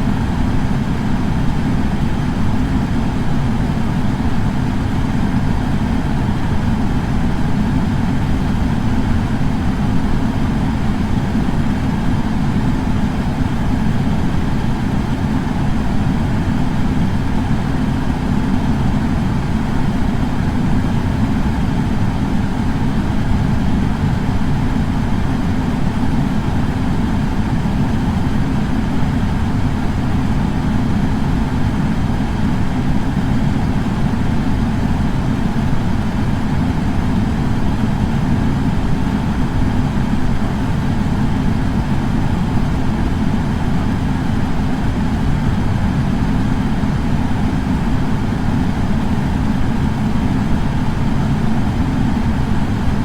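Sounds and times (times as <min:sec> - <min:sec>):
air purifier fan running: 0:00.0 - 0:53.0.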